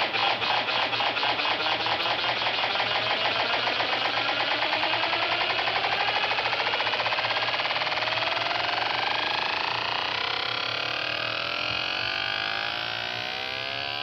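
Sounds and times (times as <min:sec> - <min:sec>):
fast synthesizer notes buzzing: 0:00.0 - 0:14.0.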